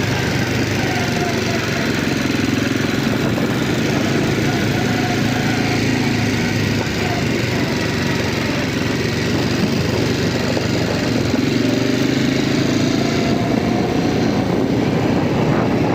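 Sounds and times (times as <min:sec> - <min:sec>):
quad bike engine running: 0:00.0 - 0:15.9.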